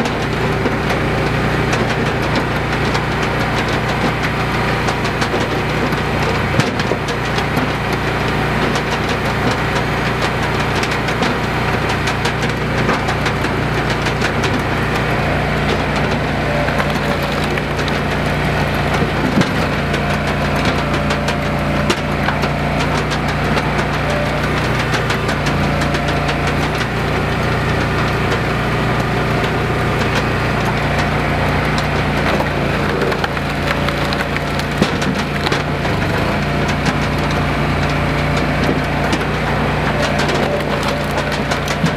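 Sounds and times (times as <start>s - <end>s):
small gas engine running: 0.0s - 41.9s
wood cracking: 0.0s - 41.9s.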